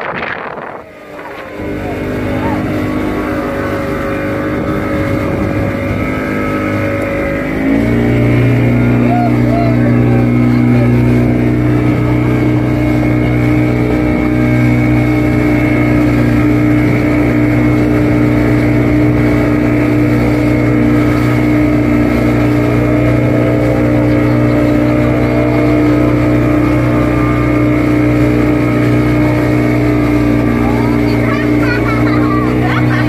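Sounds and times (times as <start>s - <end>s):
motorboat engine running: 0.0s - 33.0s
water splashing along hull: 0.0s - 33.0s.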